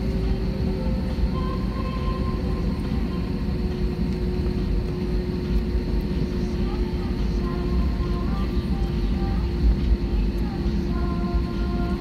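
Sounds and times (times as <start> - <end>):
airliner cabin rumble: 0.0 - 12.0
constant hum: 0.0 - 12.0.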